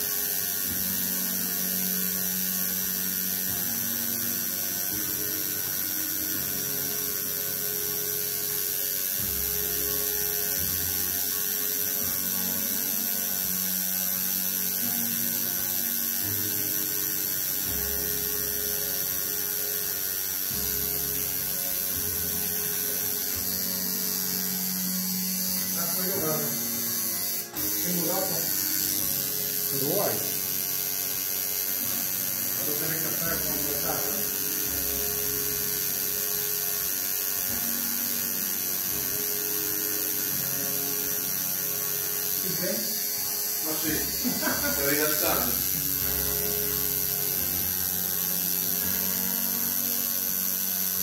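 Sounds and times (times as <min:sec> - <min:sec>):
tattoo machine buzzing: 0:00.0 - 0:51.0.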